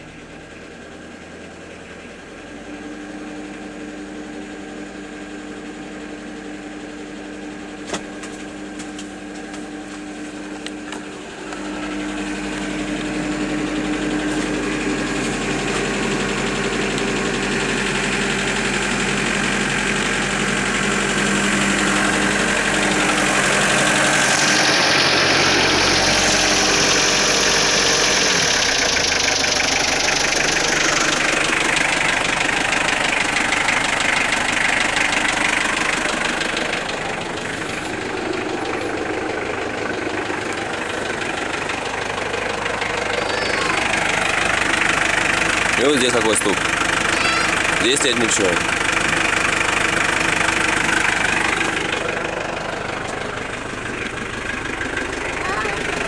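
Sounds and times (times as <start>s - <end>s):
car engine running: 0.0s - 56.0s
engine knocking: 0.0s - 56.0s.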